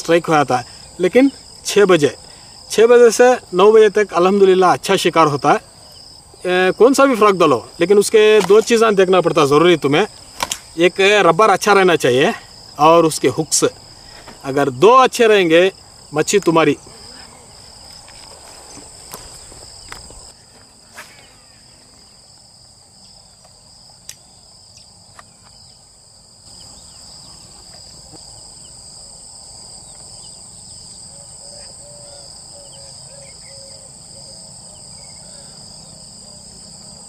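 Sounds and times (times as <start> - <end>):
insect chorus: 0.0 - 37.0.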